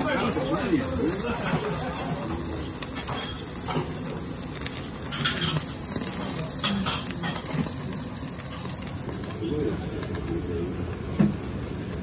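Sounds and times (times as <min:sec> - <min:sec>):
meat sizzling on a grill: 0:00.0 - 0:12.0
sharp crackles: 0:00.0 - 0:12.0.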